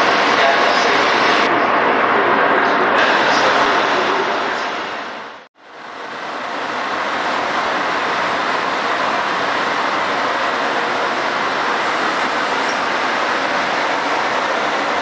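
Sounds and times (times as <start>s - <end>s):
electric locomotive rushing: 0.0s - 15.0s.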